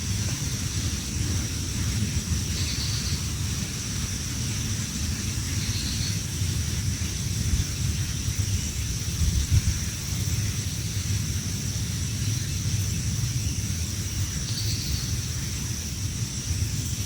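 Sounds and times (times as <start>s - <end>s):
steady high hiss: 0.0s - 17.0s
wind buffeting microphone: 0.0s - 17.0s.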